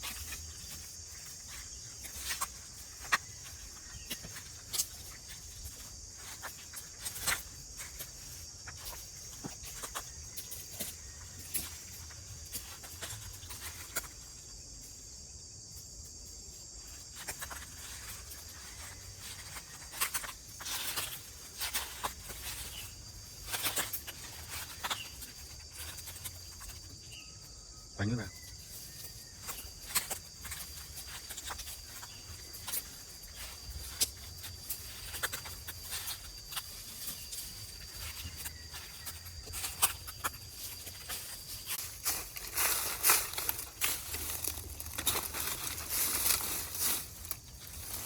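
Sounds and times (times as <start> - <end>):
insects chirping: 0.0 - 48.0.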